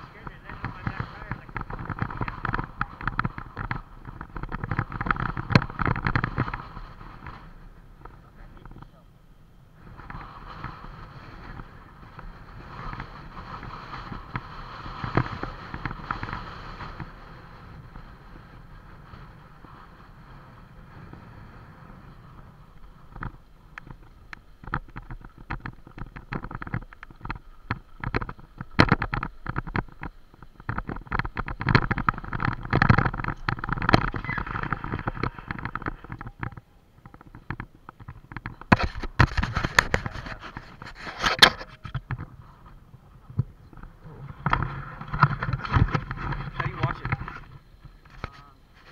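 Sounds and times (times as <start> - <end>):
bicycle wheels knocking and rattling: 0.0 - 9.0, 9.7 - 48.9
wind rushing over microphone: 0.0 - 48.9.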